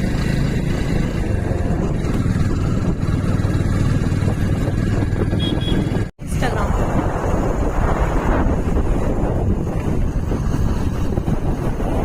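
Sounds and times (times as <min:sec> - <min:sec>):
motorcycle engine hum: 0:00.0 - 0:12.0
wind and road noise: 0:00.0 - 0:12.0.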